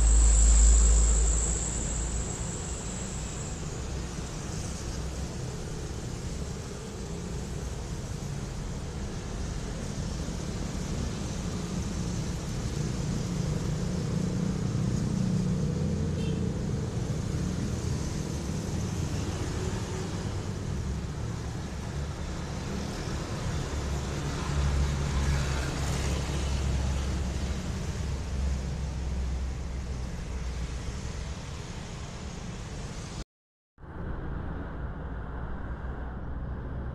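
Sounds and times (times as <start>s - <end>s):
road noise: 0.0s - 33.2s.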